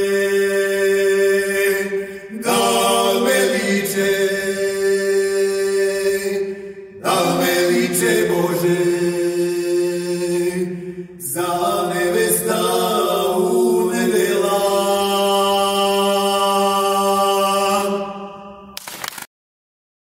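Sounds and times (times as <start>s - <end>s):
men singing unaccompanied chant: 0.0s - 18.4s.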